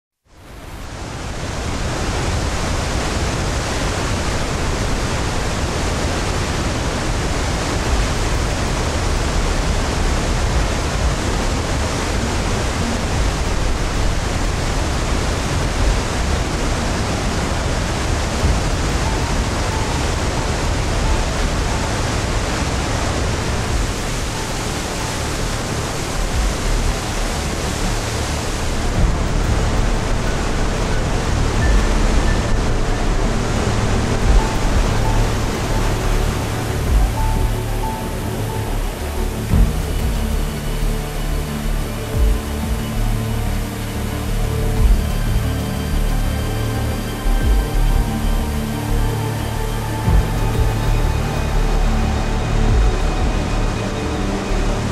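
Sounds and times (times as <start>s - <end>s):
waterfall rushing: 0.3s - 54.9s
deep rumble: 0.4s - 54.9s.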